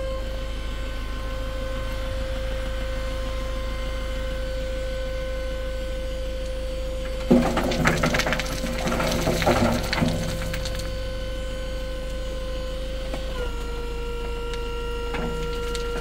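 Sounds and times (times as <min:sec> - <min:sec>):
truck engine whine and hum: 0:00.0 - 0:16.0.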